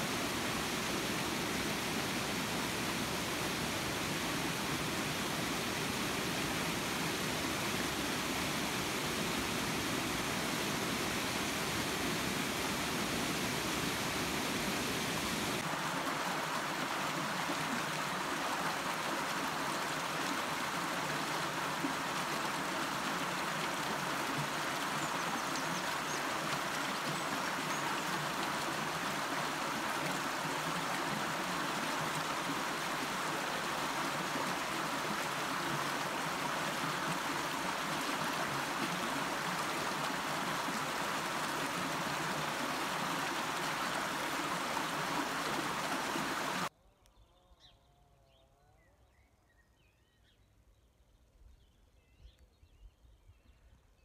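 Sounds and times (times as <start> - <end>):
stream flowing over stones: 0.0 - 46.7.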